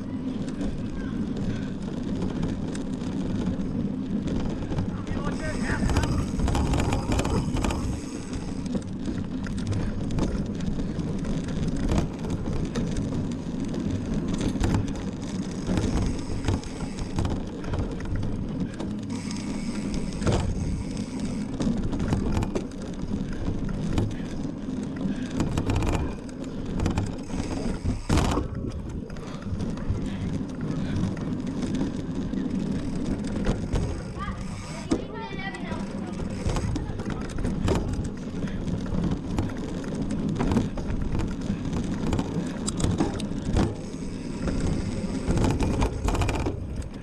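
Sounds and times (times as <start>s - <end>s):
bike rattling over bumps: 0.0s - 47.0s
bike tyres rumbling on trail: 0.0s - 47.0s.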